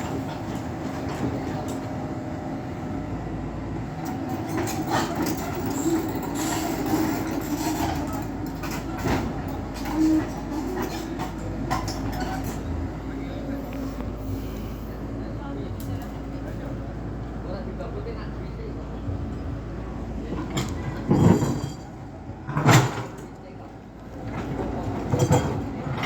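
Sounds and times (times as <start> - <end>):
excavator engine running: 0.0 - 22.7.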